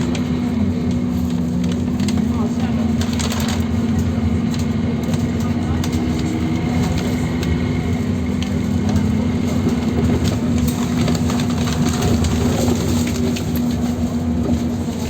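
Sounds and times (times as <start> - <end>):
bus diesel engine hum: 0.0 - 15.0
road noise: 0.0 - 15.0.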